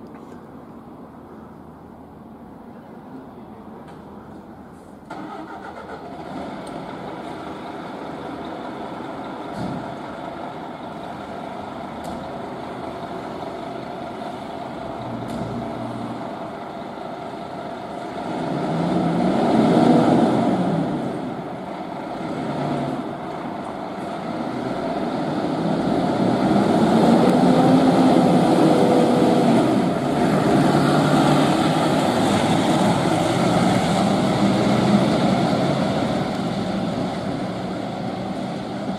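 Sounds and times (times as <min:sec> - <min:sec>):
fire engine diesel engine revving: 0:05.1 - 0:11.9, 0:12.6 - 0:38.9.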